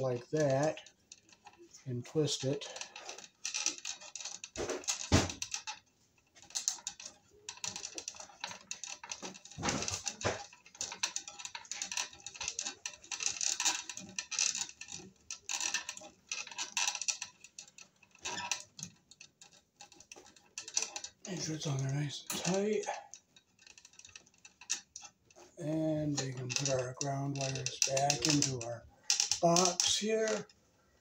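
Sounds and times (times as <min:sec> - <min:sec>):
wire nut twisting on wires: 0:00.0 - 0:31.0.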